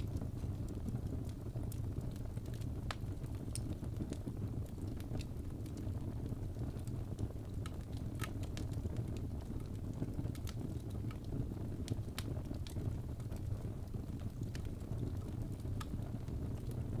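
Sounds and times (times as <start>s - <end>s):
fireplace fire crackling: 0.0s - 17.0s
low fire rumble: 0.0s - 17.0s.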